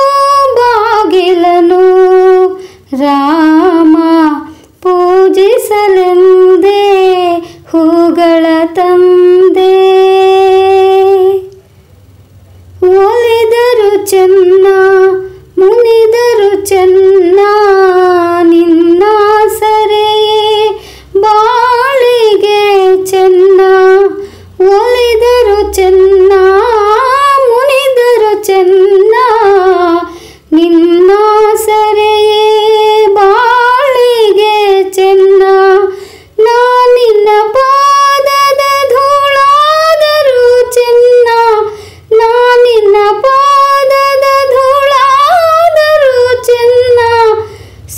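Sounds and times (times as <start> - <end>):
woman singing devotional song: 0.0 - 11.6, 12.7 - 47.9.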